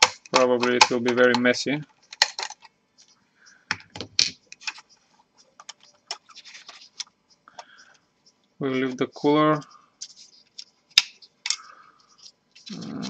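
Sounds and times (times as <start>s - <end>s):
small clicks and light scrapes: 0.3s - 13.0s.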